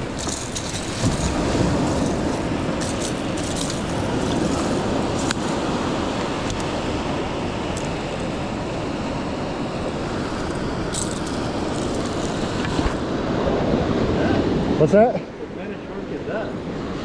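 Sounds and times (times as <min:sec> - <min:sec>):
ocean surf rushing: 0:00.0 - 0:17.0
wind on microphone: 0:00.0 - 0:17.0.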